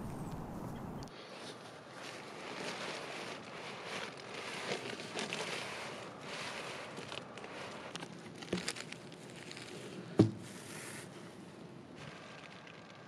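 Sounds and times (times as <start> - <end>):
crinkling sleeping pad and fabric: 0.0 - 13.0.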